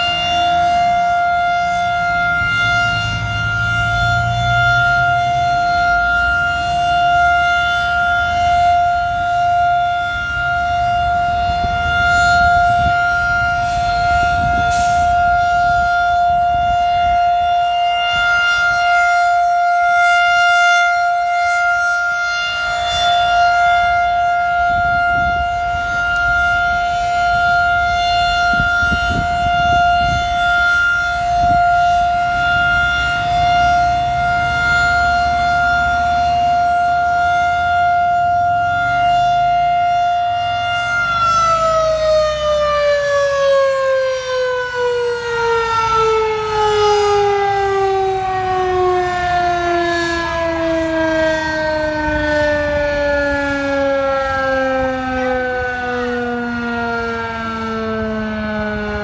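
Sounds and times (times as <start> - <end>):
rotating tornado siren: 0.0 - 59.0.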